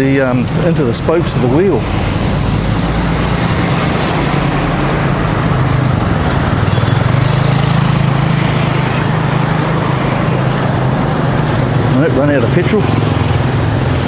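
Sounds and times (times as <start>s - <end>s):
rushing road noise: 0.0s - 14.0s
vehicle engine humming: 0.0s - 14.0s.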